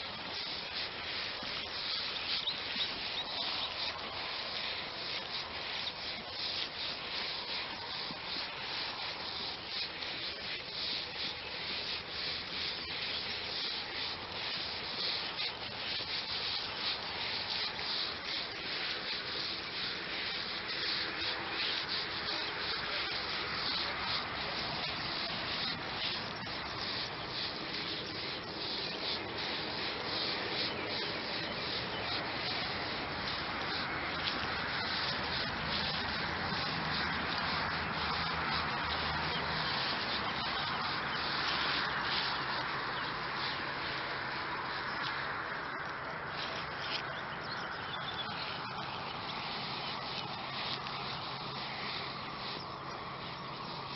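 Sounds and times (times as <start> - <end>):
footsteps through long grass: 0.0 - 53.9.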